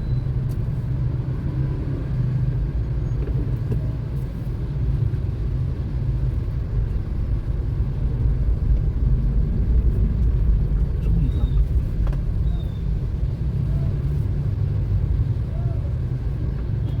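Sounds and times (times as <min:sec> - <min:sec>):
car engine rumble: 0:00.0 - 0:17.0.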